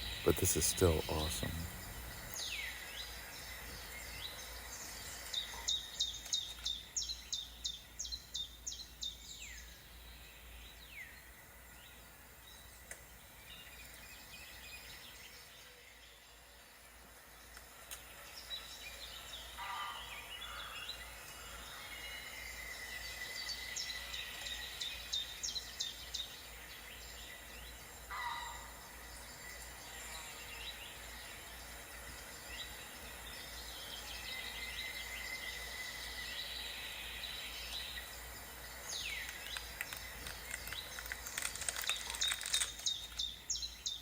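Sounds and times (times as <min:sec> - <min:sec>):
faint steady high whine: 0:00.0 - 0:40.6
wild birds chirping: 0:00.0 - 0:44.0.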